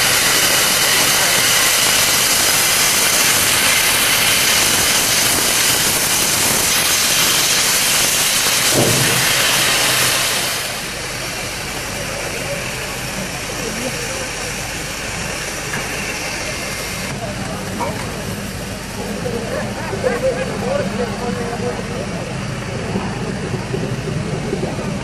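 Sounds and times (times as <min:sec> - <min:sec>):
steam locomotive hissing steam: 0:00.0 - 0:25.0.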